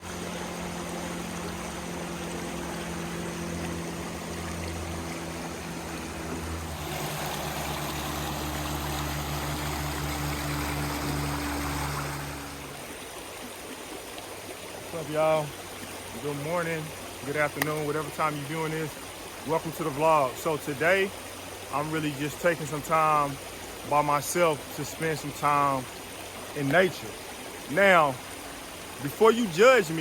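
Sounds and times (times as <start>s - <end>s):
creek water flowing: 0.0s - 30.0s.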